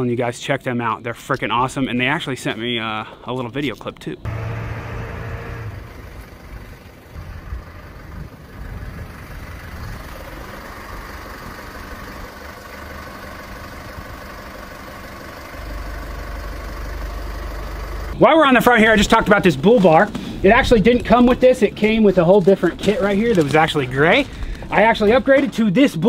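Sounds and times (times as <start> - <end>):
diesel engine idling: 4.2 - 25.2.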